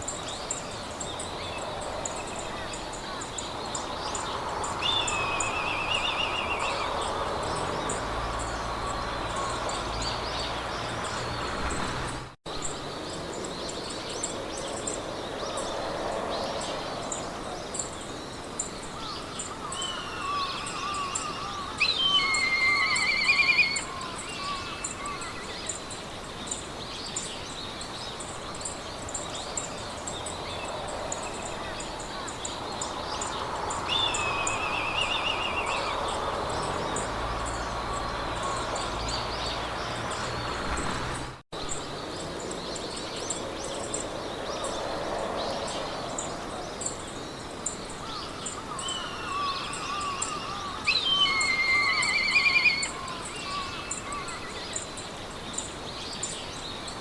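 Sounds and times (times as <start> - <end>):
soft wind hiss: 0.0 - 57.0
songbirds singing trills: 0.0 - 57.0.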